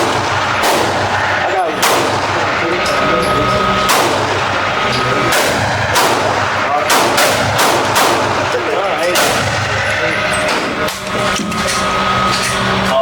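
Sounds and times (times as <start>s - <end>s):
gunshots with short echo: 0.0s - 10.9s.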